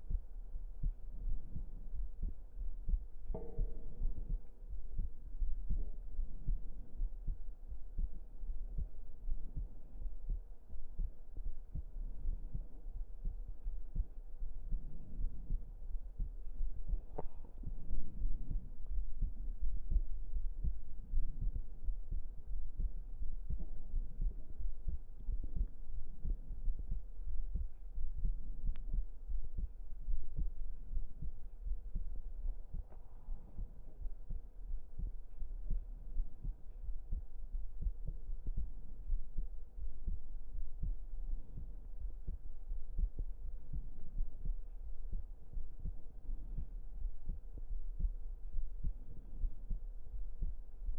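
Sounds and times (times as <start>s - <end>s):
constant low rumble: 0.0s - 50.9s
heartbeat thumping: 0.0s - 50.9s.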